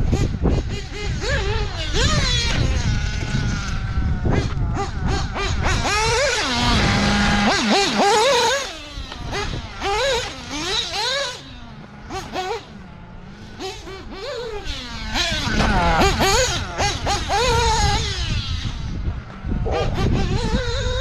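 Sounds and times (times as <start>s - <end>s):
model buggy engine revving: 0.0s - 21.0s.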